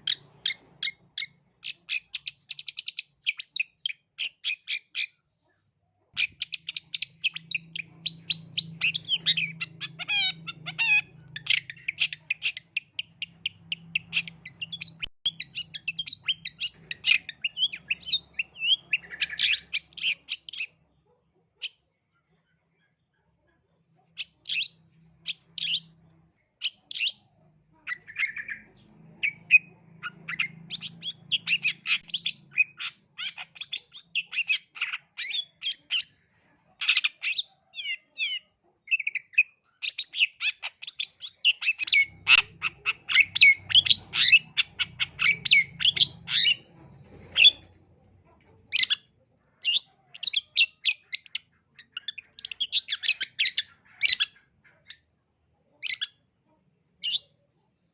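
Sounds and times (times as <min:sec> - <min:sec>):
bird chattering and squawking: 0:00.0 - 0:05.2, 0:06.1 - 0:20.8, 0:24.0 - 0:56.3, 0:57.0 - 0:57.4.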